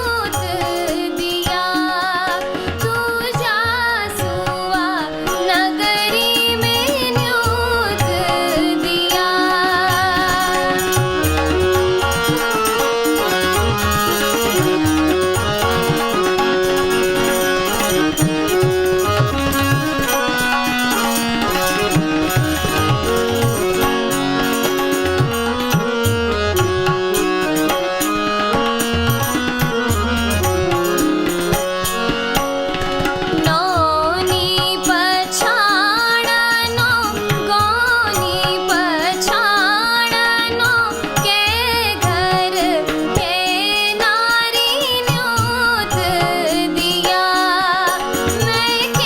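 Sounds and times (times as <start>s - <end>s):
woman singing: 0.0s - 26.6s, 33.0s - 49.0s
sustained melody instrument: 0.0s - 49.0s
tabla playing: 0.0s - 49.0s.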